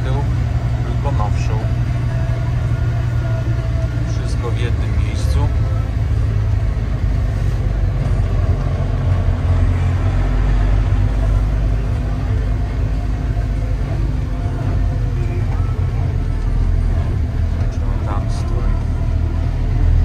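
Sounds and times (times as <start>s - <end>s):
truck engine deep drone: 0.0s - 20.0s.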